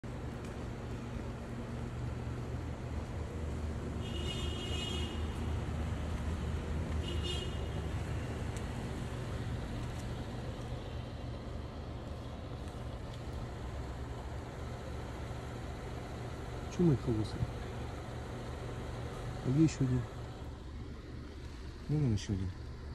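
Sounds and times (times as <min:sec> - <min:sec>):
low hum of street noise: 0:00.0 - 0:22.9.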